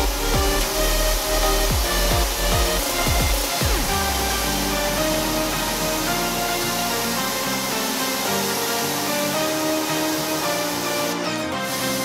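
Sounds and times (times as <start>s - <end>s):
electronic music with held notes: 0.0s - 12.0s.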